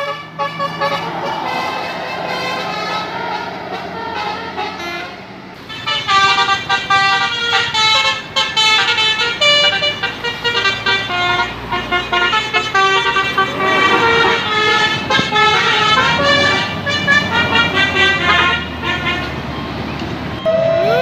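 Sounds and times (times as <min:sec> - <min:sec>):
multi-tone musical bus horn: 0:00.0 - 0:19.6, 0:20.4 - 0:21.0
road vehicle noise: 0:00.0 - 0:21.0.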